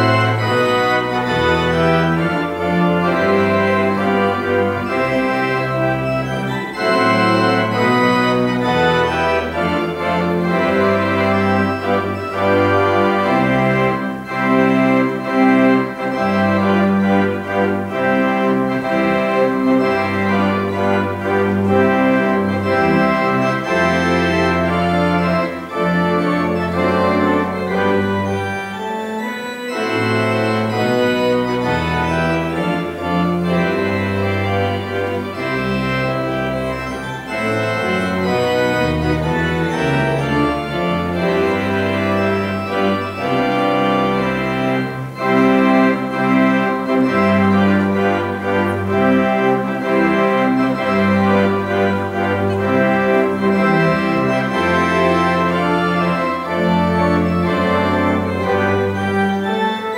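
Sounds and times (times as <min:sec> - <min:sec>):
pipe organ playing chords: 0:00.0 - 0:59.9.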